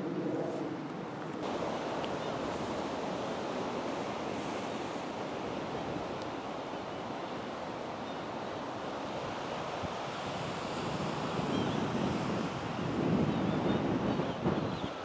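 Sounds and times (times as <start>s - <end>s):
gusty wind rushing: 1.4s - 15.0s.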